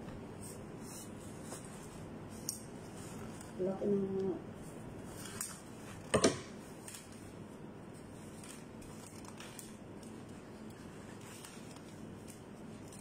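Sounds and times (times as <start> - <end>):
rustling while wrapping: 0.4 - 13.0.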